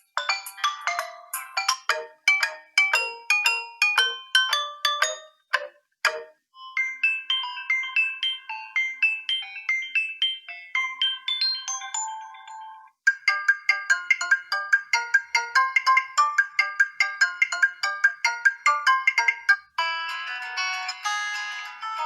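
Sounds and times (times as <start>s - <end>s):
bell-like ringtone melody: 0.0s - 22.0s
fast ringtone of repeated notes: 0.0s - 22.0s.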